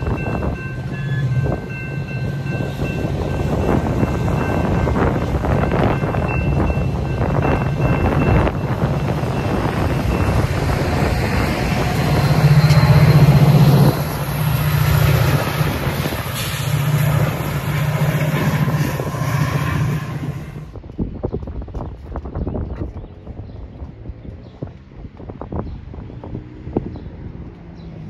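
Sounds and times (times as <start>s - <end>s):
train wheels on rails: 0.0s - 26.7s
diesel locomotive engine hum: 0.0s - 28.0s.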